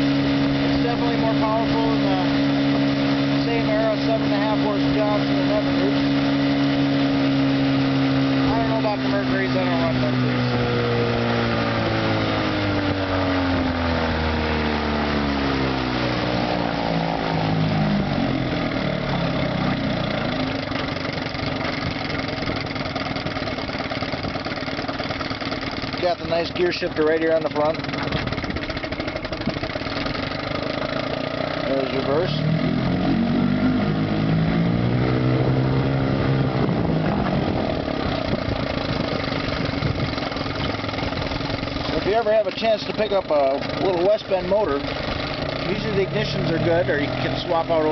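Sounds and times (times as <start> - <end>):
outboard motor throttling back: 0.0 - 47.9.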